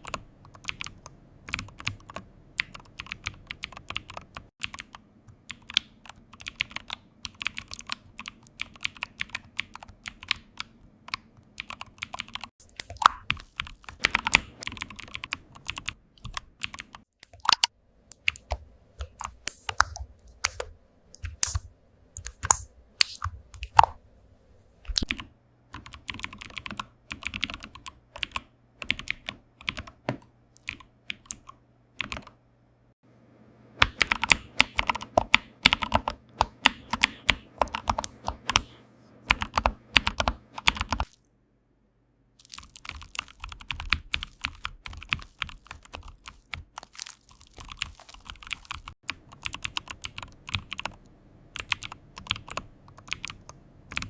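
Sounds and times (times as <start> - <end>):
computer keyboard typing: 0.0 - 21.6, 24.9 - 32.4, 33.8 - 41.2, 42.4 - 54.0.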